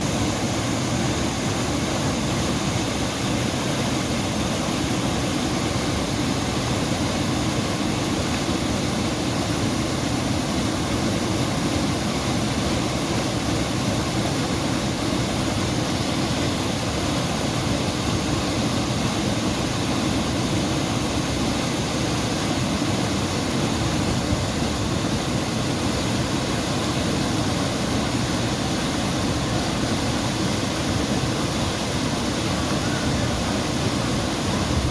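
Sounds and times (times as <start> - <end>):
waterfall roaring into pool: 0.0 - 34.9.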